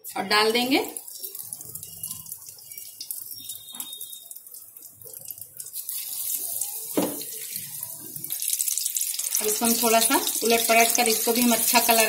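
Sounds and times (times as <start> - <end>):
deep-frying crackling sizzle: 0.1 - 12.0.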